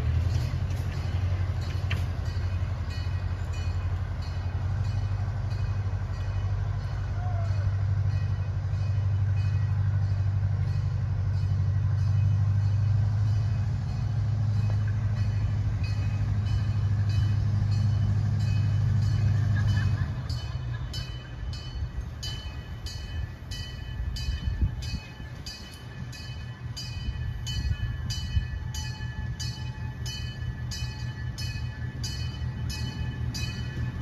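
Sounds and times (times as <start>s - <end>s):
miniature locomotive engine drone: 0.0s - 34.0s.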